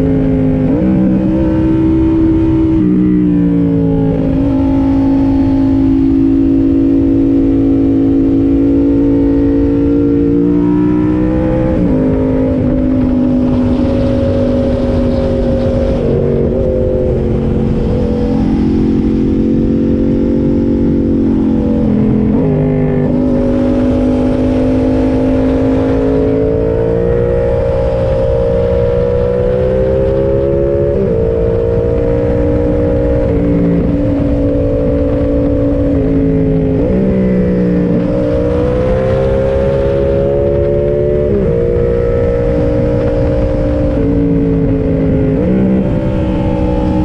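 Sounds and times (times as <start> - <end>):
motorcycle engine shifting gears: 0.0 - 47.0
wind and road rumble: 0.0 - 47.0.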